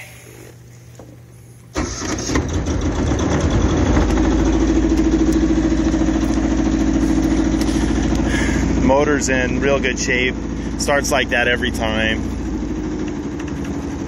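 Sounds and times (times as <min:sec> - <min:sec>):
diesel engine starting and running: 0:01.6 - 0:14.0.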